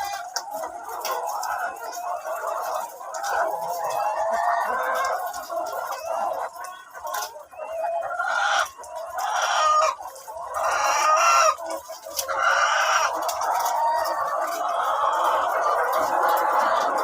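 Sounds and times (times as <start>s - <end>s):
hens clucking and calling: 0.0s - 17.0s.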